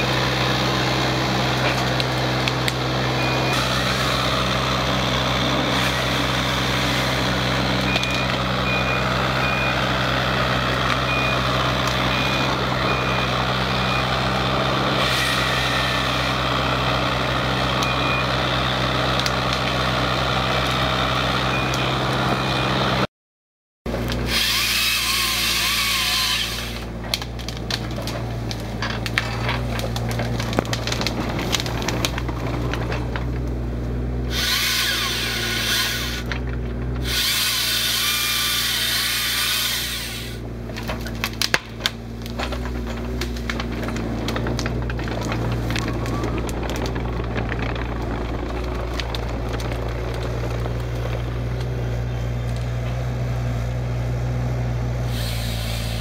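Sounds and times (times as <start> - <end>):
wood cracking and snapping: 0.0 - 22.2, 23.9 - 54.5
excavator engine humming: 0.0 - 23.1, 23.9 - 56.0.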